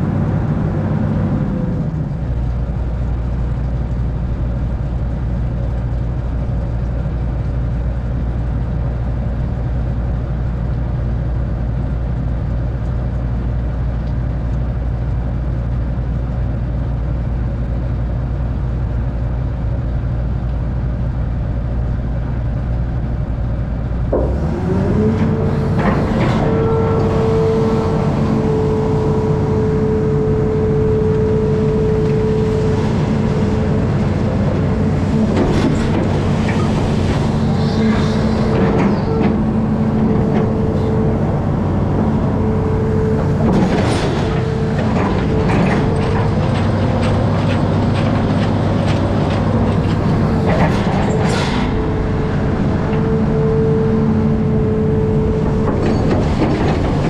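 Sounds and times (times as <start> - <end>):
diesel engine running: 0.0 - 57.0
steady whine: 0.0 - 57.0.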